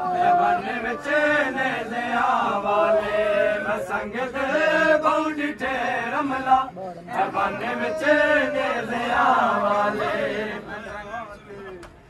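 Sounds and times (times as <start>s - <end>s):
men chanting a lament: 0.0s - 11.8s.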